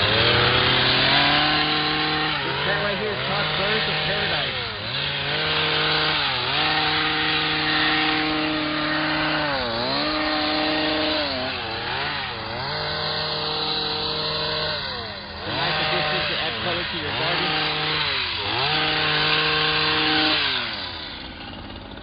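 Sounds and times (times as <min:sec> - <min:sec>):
hedge trimmer engine revving: 0:00.0 - 0:22.0.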